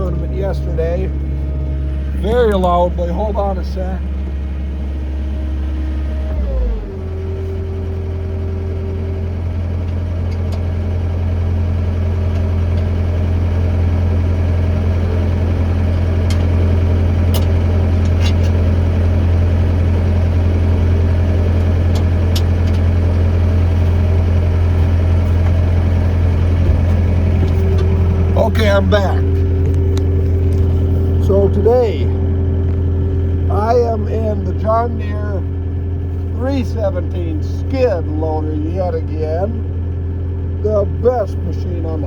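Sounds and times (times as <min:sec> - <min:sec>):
loader engine running: 0:00.0 - 0:42.0.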